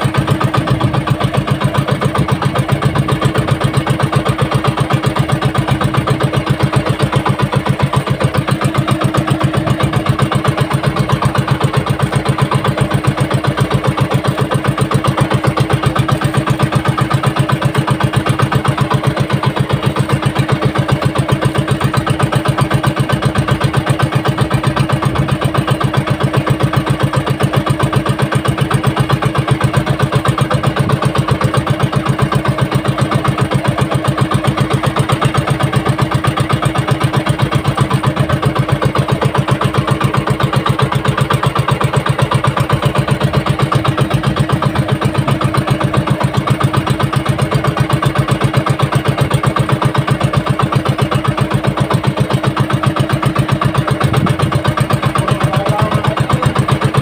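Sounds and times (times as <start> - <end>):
boat engine chugging: 0.0 - 57.0.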